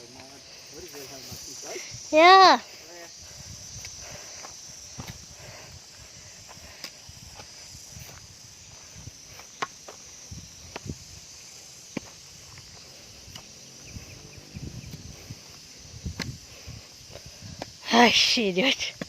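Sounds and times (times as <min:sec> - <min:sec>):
footsteps on a trail: 0:00.0 - 0:19.0
insects droning: 0:00.0 - 0:19.0.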